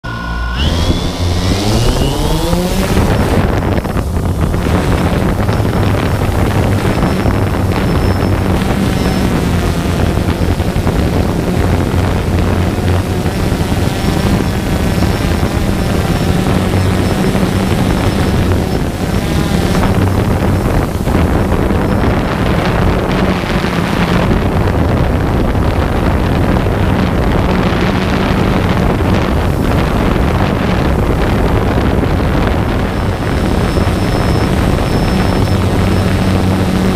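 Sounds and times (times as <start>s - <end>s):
drone propellers buzzing: 0.0s - 36.9s
wind noise on microphone: 0.0s - 36.9s.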